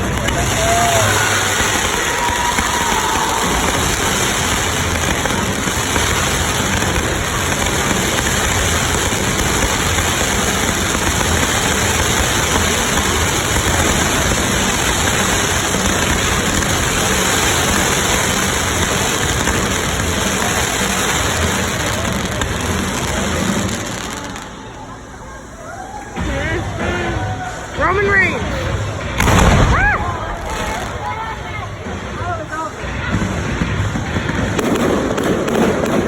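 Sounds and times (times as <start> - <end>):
fireworks bursting: 0.0 - 36.0.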